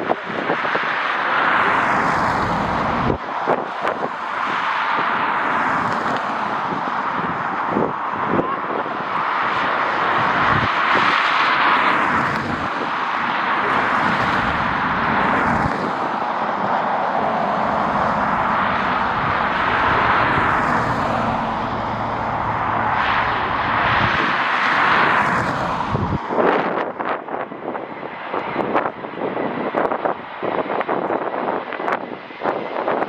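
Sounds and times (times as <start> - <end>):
jet engine roar: 0.0 - 33.0
wind buffeting microphone: 0.0 - 33.0.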